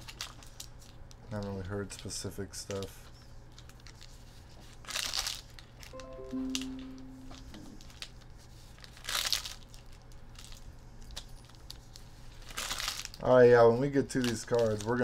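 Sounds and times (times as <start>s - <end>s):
plastic wrappers crinkling and tearing: 0.0s - 5.8s, 8.7s - 15.0s.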